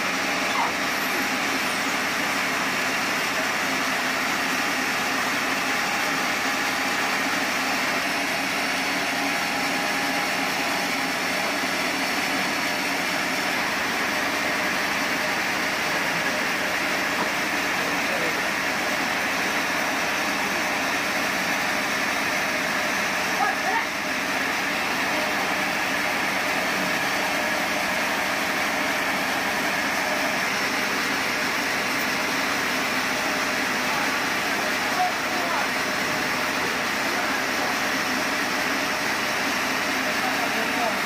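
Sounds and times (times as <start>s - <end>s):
sawmill machinery running: 0.0s - 41.0s.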